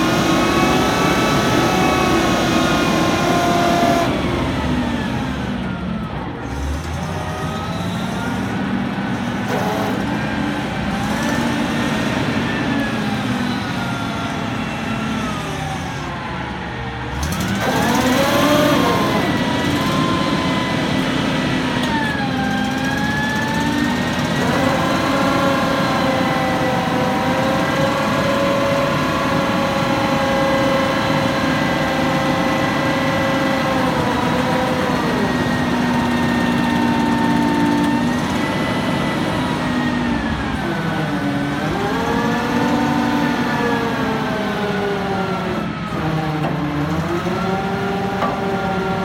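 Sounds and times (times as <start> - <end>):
forklift engine running: 0.0 - 49.0
hydraulic whine: 0.0 - 49.0.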